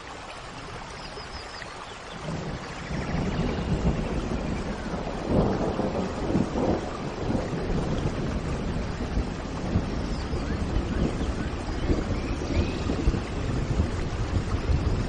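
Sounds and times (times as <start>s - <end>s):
heavy rain: 0.0s - 15.0s
low rumble of thunder: 2.1s - 15.0s.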